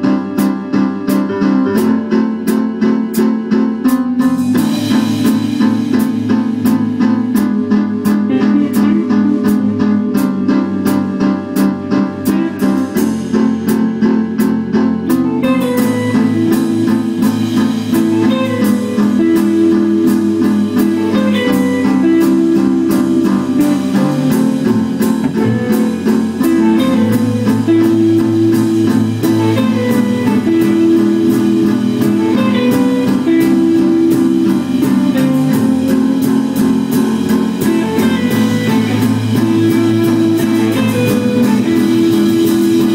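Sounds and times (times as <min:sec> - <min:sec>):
bass line: 0:00.0 - 0:42.9
instrumental guitar music with beat: 0:00.0 - 0:42.9.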